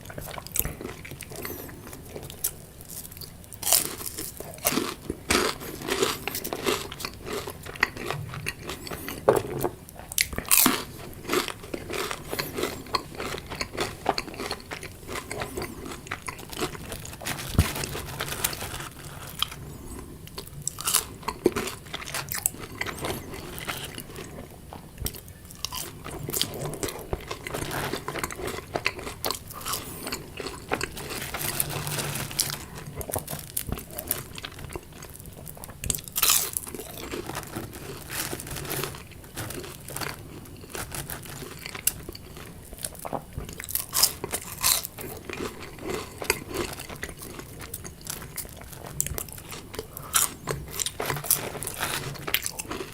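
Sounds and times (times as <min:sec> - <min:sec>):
crunching fried food: 0:00.0 - 0:52.9
soft chewing: 0:00.0 - 0:52.9.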